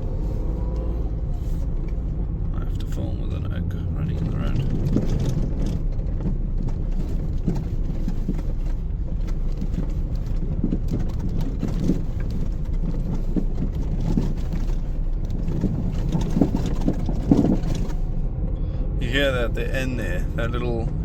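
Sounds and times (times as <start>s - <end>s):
tyre and suspension rumble: 0.0s - 21.0s.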